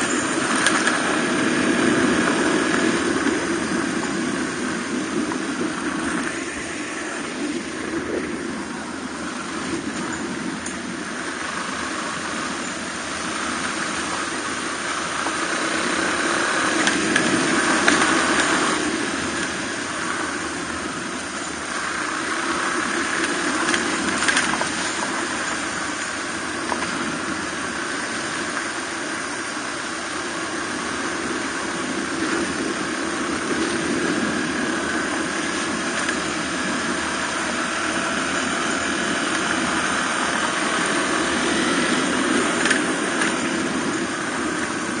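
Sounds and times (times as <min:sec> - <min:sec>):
motorcycle engine running: 0:00.0 - 0:45.0
road noise: 0:00.0 - 0:45.0
wind: 0:00.0 - 0:45.0.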